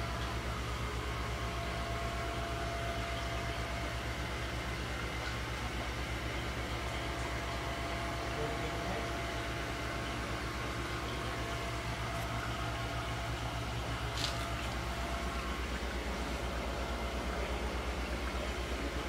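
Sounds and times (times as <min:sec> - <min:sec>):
pumps and fans humming: 0:00.0 - 0:19.0.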